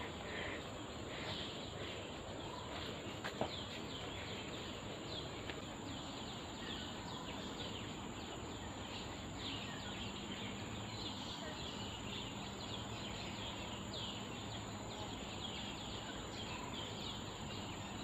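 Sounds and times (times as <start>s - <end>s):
wildlife chirping: 0.0s - 18.0s.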